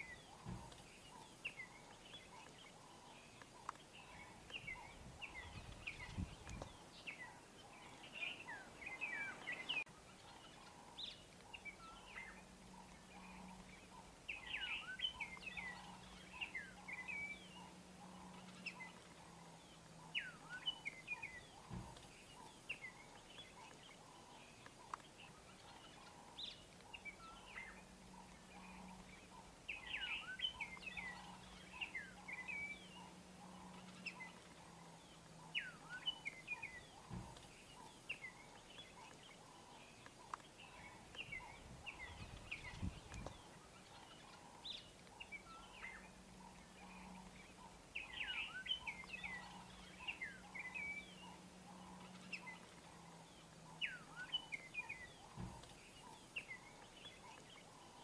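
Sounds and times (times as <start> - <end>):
birds chirping and calling: 0.0 - 58.0
low steady hum: 0.0 - 58.0.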